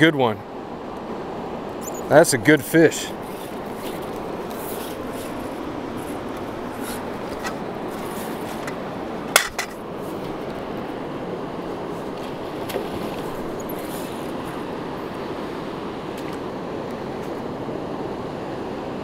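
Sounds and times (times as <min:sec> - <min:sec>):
fast-flowing river rushing: 0:00.5 - 0:19.0.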